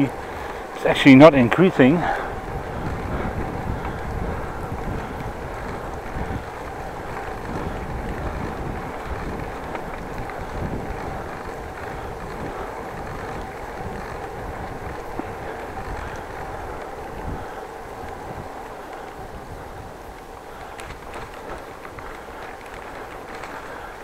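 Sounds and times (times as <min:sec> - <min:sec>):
bicycle tyres rolling on pavement: 0:00.0 - 0:24.0
wind rushing over microphone: 0:00.0 - 0:24.0.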